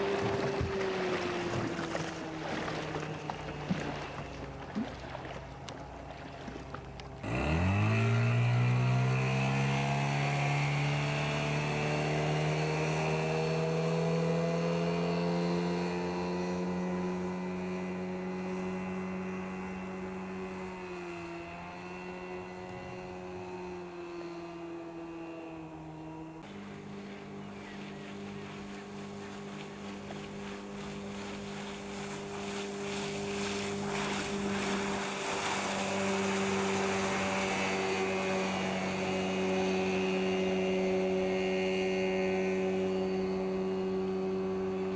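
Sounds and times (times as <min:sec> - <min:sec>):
outboard motor revving: 0:00.0 - 0:44.9.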